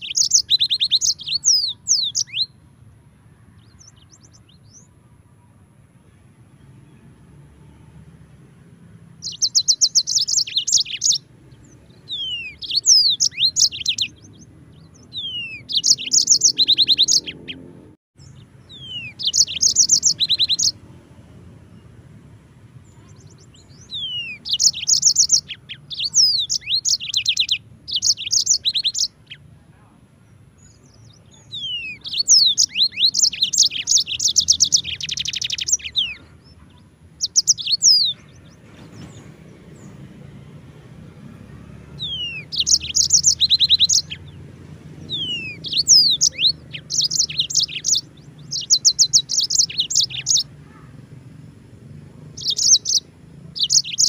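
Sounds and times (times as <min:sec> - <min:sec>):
canary singing trills: 0:00.0 - 0:05.6, 0:06.2 - 0:54.0.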